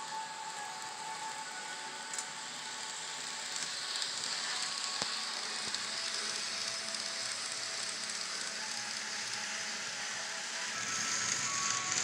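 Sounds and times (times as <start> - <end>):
faint thin whine: 0.0 - 12.0
model train hiss: 0.0 - 12.0.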